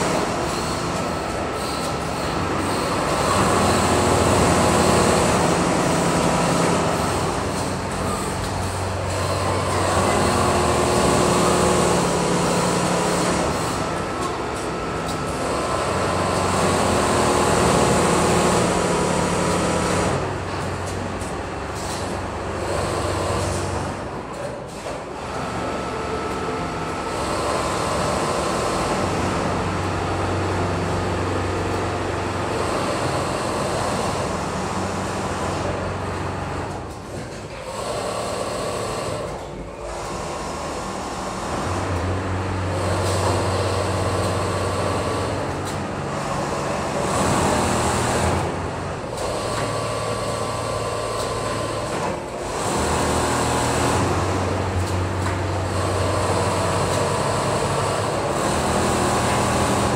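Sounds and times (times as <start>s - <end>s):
sewing machines humming: 0.0s - 59.9s.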